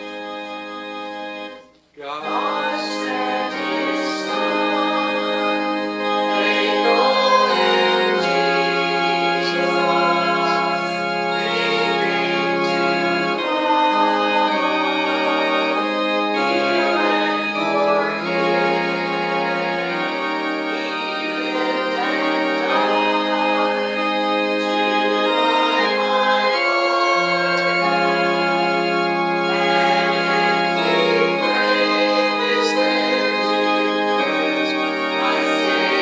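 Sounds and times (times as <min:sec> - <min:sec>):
church organ playing hymn: 0:00.0 - 0:36.0.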